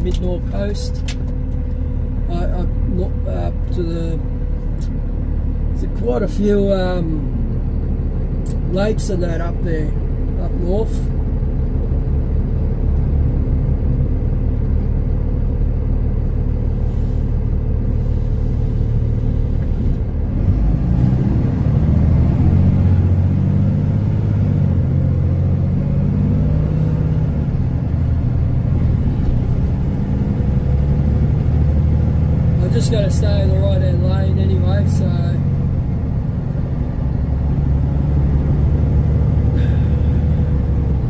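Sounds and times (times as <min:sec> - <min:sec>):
truck diesel engine drone: 0:00.0 - 0:41.0.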